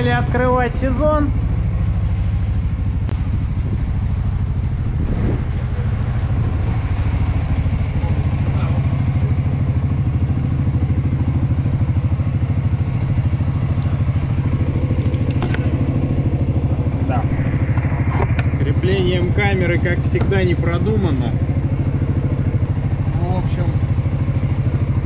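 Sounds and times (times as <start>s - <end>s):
scooter engine idling: 0.0s - 25.0s.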